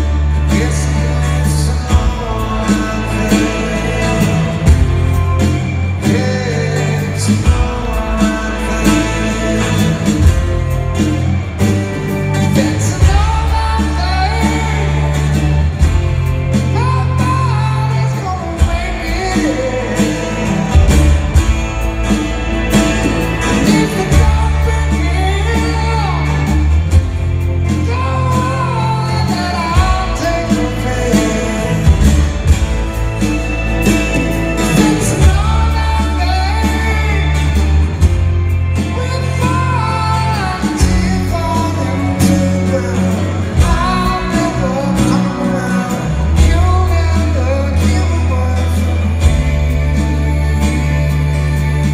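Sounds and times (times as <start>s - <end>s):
live rock band playing: 0.0s - 51.9s
man singing lead vocal: 0.0s - 51.9s.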